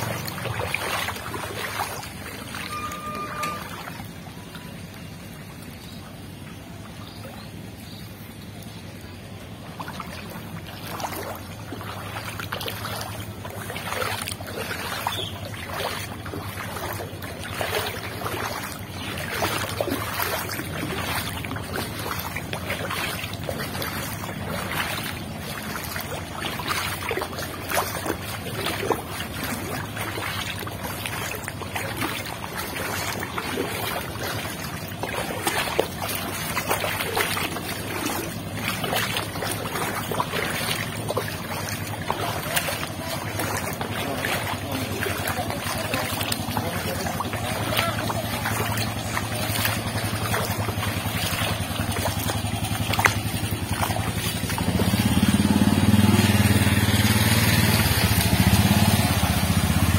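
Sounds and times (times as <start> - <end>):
footsteps splashing in water: 0.0 - 59.9
steady low hum: 7.4 - 55.4.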